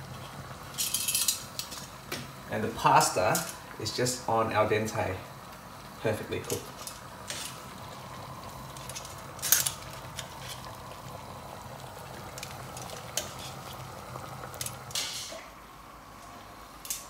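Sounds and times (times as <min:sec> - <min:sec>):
pots simmering and bubbling: 0:00.0 - 0:17.0.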